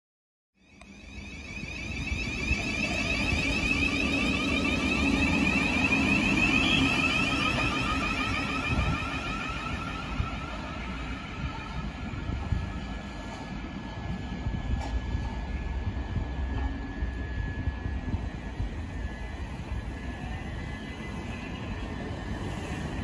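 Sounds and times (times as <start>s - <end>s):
electric train motor whine: 0.6s - 23.0s
wheels rumbling on rail: 0.7s - 23.0s.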